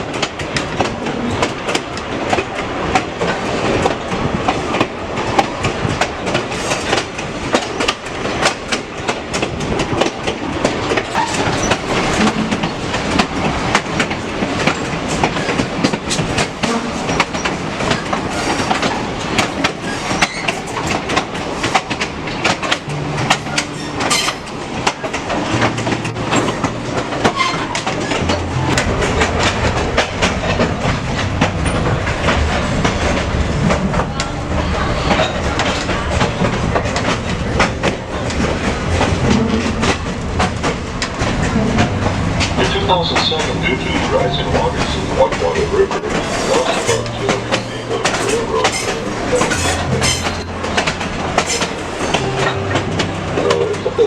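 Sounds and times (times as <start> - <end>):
train rumbling: 0.0 - 54.0
wheels clicking over rail joints: 0.0 - 54.0.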